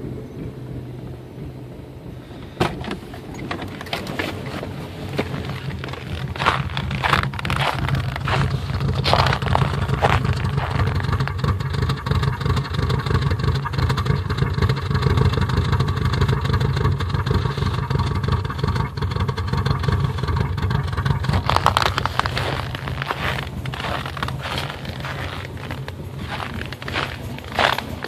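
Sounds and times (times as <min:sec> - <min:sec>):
car engine idling roughly: 0:01.2 - 0:28.0.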